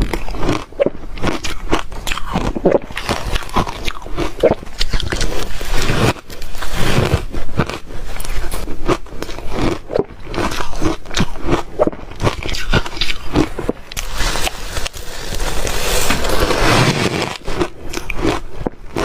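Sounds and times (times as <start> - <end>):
ice cubes crunching: 0.0 - 19.0.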